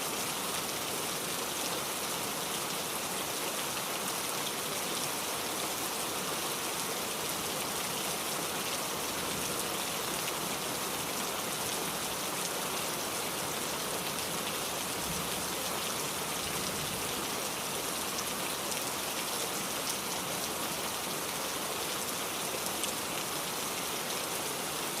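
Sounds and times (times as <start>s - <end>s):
steady rain pattering: 0.0s - 25.0s.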